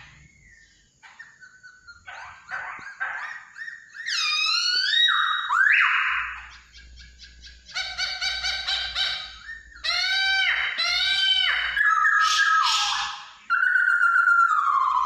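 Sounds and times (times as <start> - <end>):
bird whistled calls: 0.0 - 15.0.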